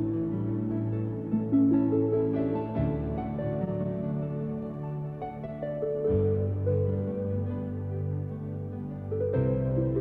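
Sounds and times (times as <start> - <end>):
slow instrumental background music: 0.0 - 10.0.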